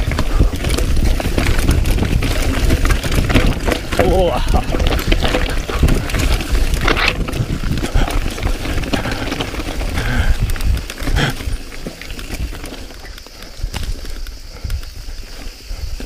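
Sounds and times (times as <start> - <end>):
mountain bike rattling over stones: 0.0 - 16.0.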